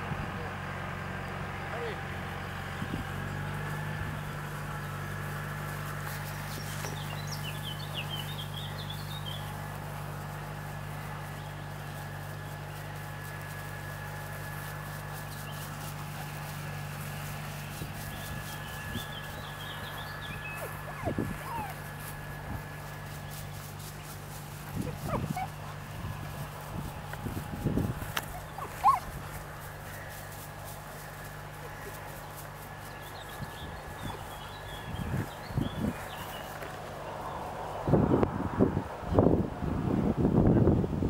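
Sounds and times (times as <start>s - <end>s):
steady low hum: 0.0s - 39.1s.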